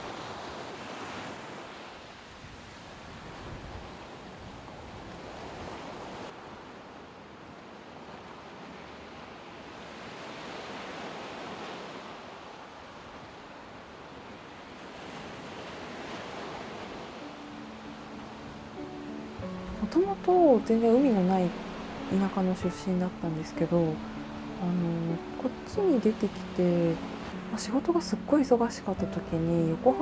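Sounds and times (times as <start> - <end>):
small waves washing on beach: 0.0 - 30.0.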